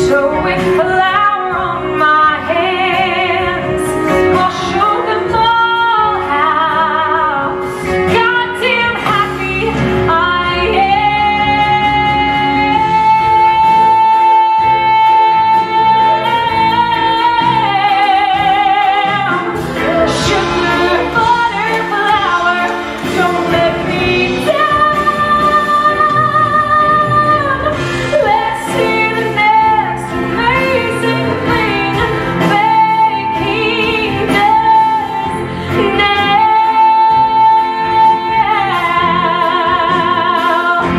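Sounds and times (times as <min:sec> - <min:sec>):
band accompaniment: 0:00.0 - 0:40.9
woman singing with vibrato: 0:00.0 - 0:40.9.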